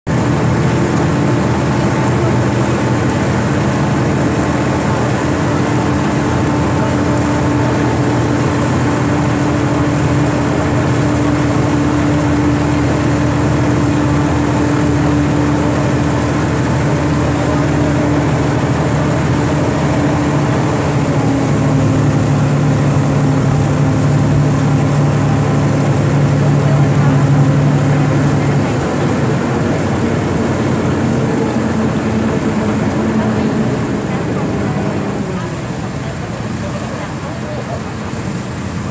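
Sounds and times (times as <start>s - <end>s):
ferry diesel engine running: 0.0s - 38.9s
water and hull noise: 0.1s - 38.9s.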